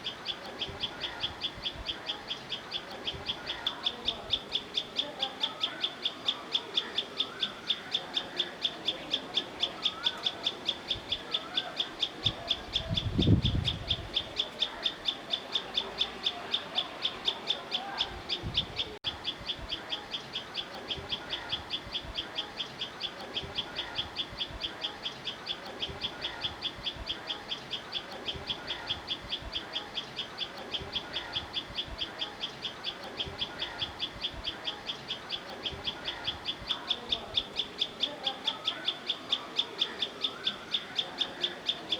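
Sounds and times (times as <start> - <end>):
high chirp repeated steadily: 0.0 - 41.9
soft bird calls: 0.0 - 41.9.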